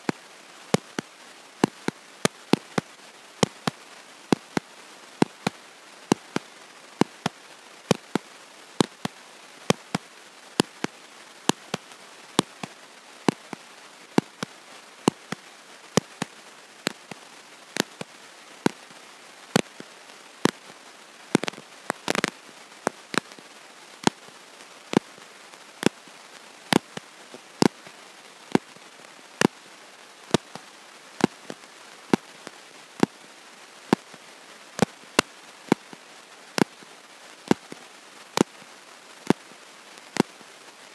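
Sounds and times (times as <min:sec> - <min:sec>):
record crackle clicks and pops: 0:00.0 - 0:40.9
steady hiss: 0:00.0 - 0:40.9.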